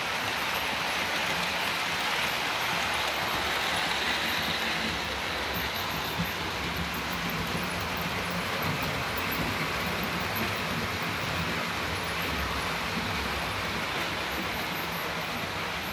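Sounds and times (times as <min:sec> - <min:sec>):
model train running on track: 0:00.0 - 0:15.9.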